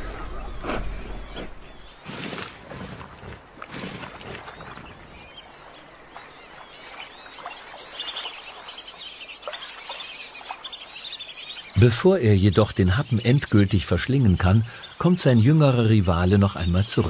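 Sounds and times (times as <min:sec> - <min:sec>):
birds chirping and whistling: 0:00.0 - 0:02.4, 0:03.8 - 0:17.0.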